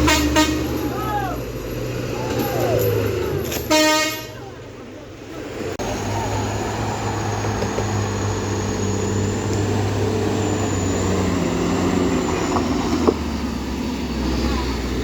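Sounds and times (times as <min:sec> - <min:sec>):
diesel truck engine under load: 0:00.0 - 0:15.0.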